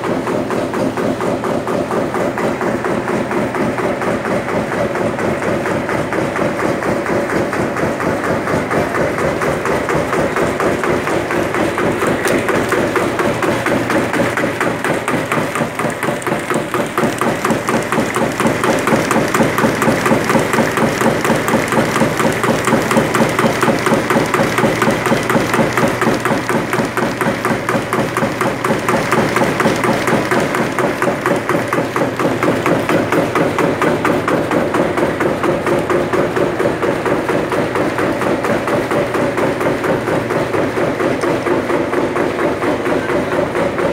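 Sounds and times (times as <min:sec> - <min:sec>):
machine pounding rapidly: 0:00.0 - 0:43.9
steady motor hum: 0:00.0 - 0:43.9.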